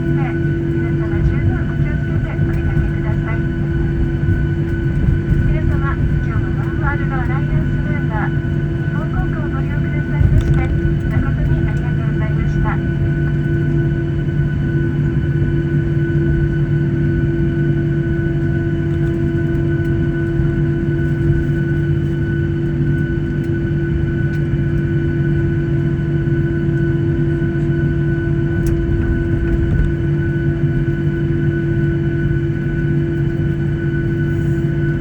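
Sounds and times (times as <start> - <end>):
aircraft cabin engine hum: 0.0 - 35.0.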